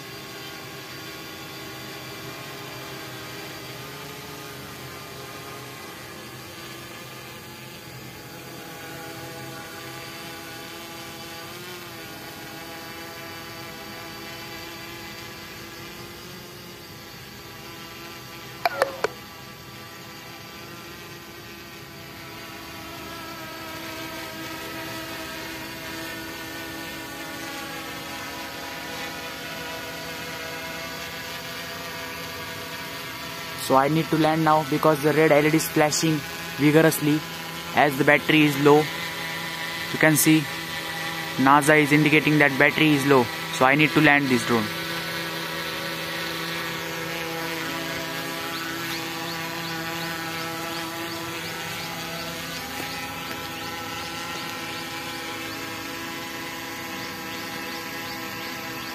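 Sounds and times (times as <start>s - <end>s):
quadcopter drone buzzing hum: 0.0s - 58.9s.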